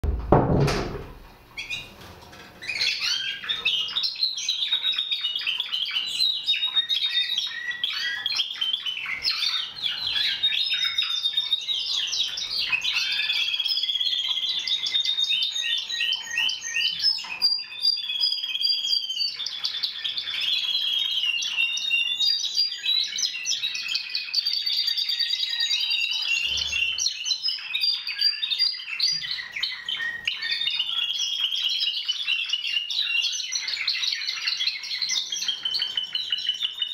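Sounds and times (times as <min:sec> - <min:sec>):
canaries singing trills: 0:00.0 - 0:36.9.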